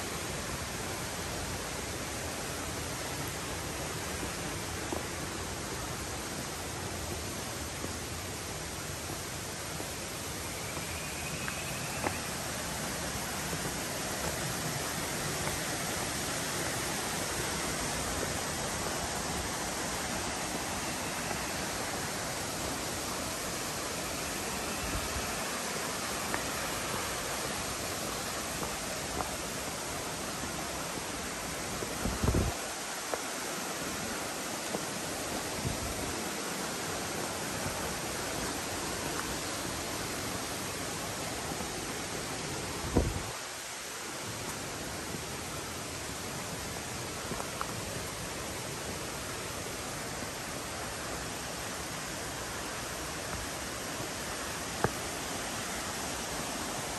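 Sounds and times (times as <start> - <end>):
stream rushing over rocks: 0.0 - 56.9.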